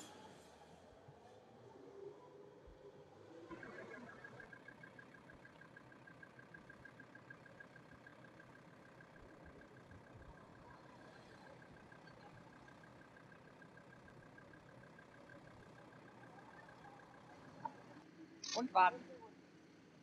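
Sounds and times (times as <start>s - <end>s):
faint vehicle engine: 0.0s - 20.0s.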